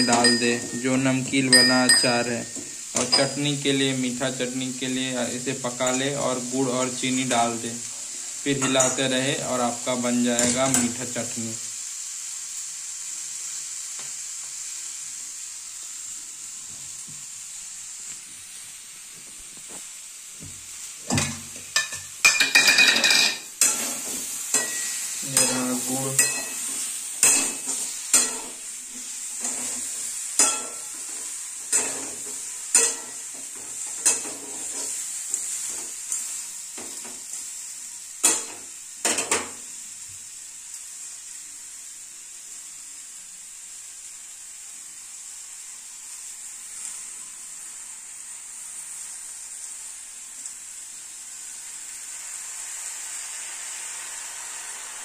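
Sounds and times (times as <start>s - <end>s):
high hiss of frying: 0.0s - 55.0s.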